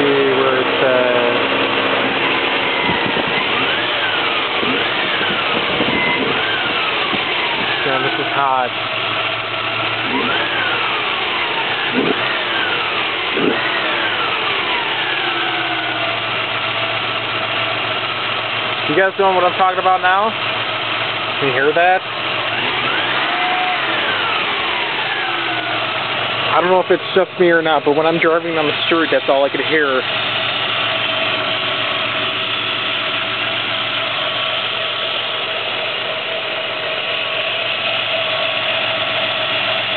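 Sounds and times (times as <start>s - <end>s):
car engine revving: 0.0s - 39.9s
drive belt whine: 0.0s - 39.9s.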